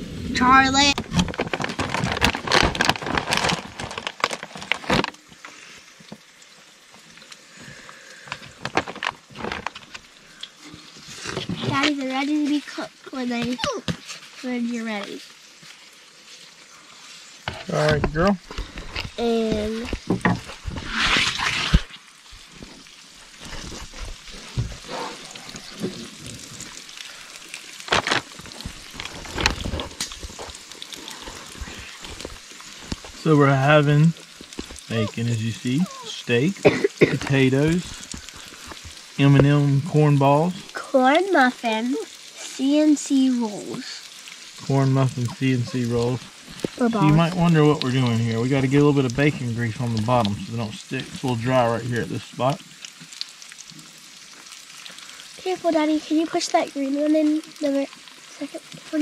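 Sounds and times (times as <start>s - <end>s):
meat sizzling in a pan: 0.0s - 59.0s.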